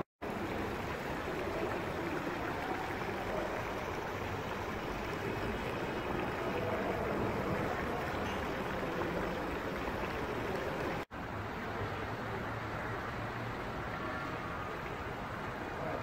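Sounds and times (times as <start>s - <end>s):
fountain water splashing: 0.2s - 16.0s.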